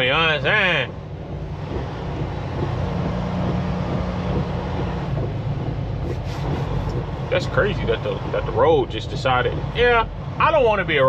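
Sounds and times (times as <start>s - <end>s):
diesel truck engine running: 0.0s - 11.0s
road noise: 0.0s - 11.0s.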